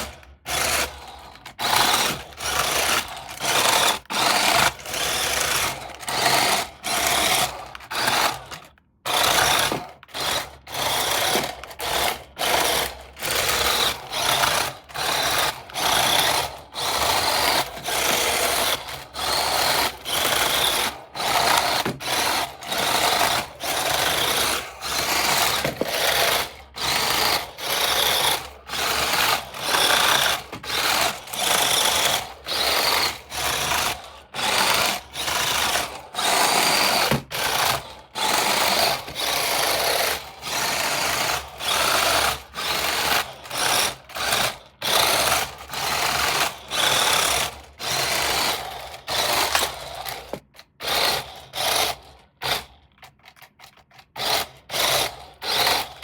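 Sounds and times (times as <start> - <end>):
toy car electric motor whirring: 0.0 - 56.0.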